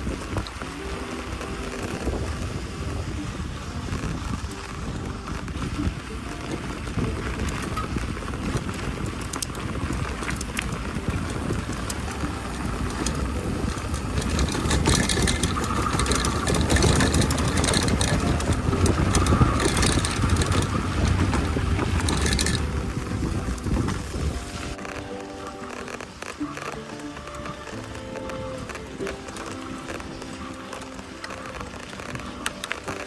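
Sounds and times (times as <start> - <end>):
bike tyres on dirt: 0.0 - 33.0
gravel crunching: 0.0 - 33.0
wind rumble on microphone: 0.0 - 33.0.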